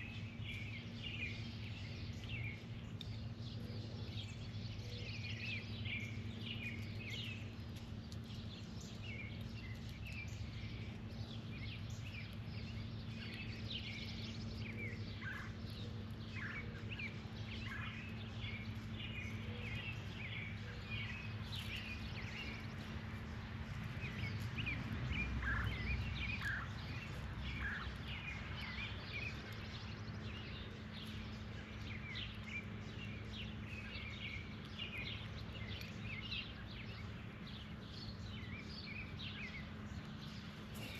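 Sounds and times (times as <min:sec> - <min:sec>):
birds chirping and twittering: 0:00.0 - 0:40.9
steady low hum: 0:00.0 - 0:40.9.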